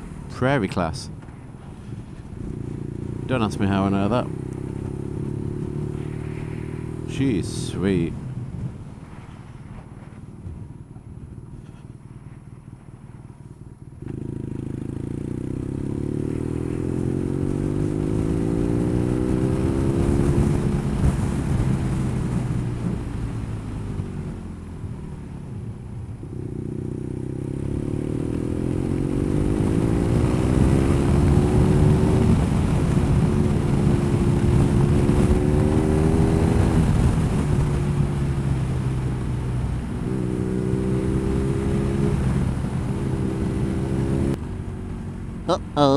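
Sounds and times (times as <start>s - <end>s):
wind noise: 0.0s - 14.2s, 16.1s - 26.7s, 27.3s - 45.8s
motorcycle engine accelerating: 1.2s - 45.9s.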